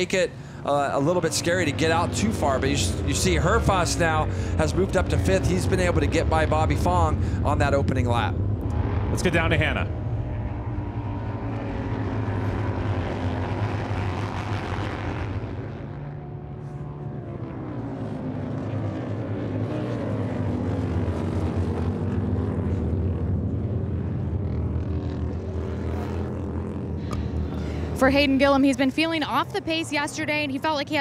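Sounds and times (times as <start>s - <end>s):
motorcycle engines droning: 0.0s - 31.0s.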